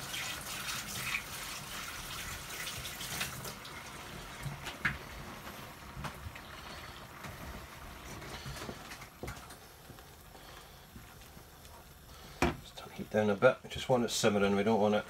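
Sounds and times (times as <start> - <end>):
sauce bubbling in a frying pan: 0.0 - 15.0.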